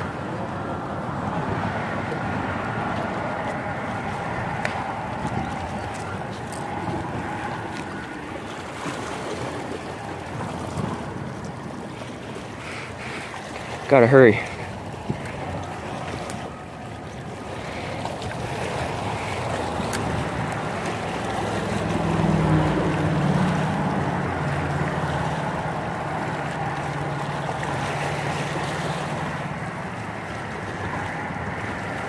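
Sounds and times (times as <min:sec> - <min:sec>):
wind on microphone: 0:00.0 - 0:13.3, 0:14.5 - 0:32.0
low motor hum: 0:00.0 - 0:13.9, 0:14.5 - 0:32.0
waves lapping against rocks: 0:00.0 - 0:32.0.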